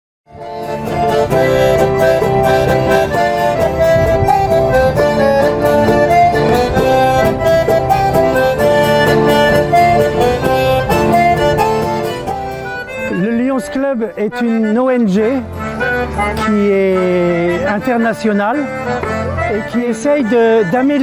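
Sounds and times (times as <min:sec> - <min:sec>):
accordion-led traditional music: 0:00.3 - 0:21.0.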